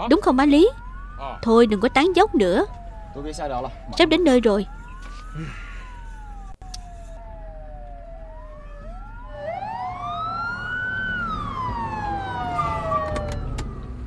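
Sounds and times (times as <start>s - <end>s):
fire engine sirens wailing: 0.0s - 14.0s.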